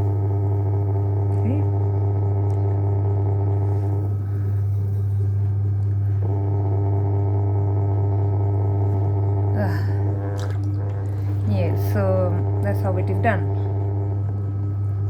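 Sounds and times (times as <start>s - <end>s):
pottery wheel motor humming: 0.0s - 15.0s.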